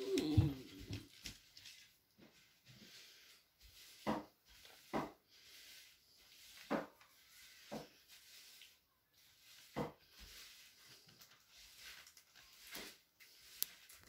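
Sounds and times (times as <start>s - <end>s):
rustling of pad: 0.1s - 14.0s.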